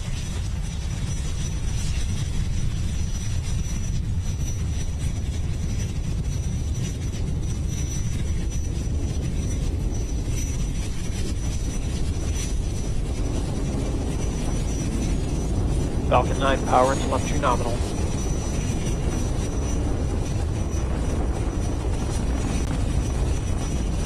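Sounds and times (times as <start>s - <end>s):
rocket engines deep rumble: 0.0s - 24.0s.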